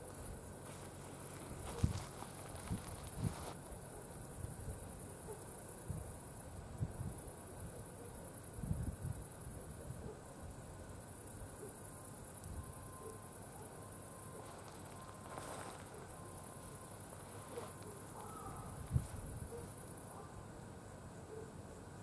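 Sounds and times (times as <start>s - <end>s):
insects buzzing in grass: 0.0s - 22.0s.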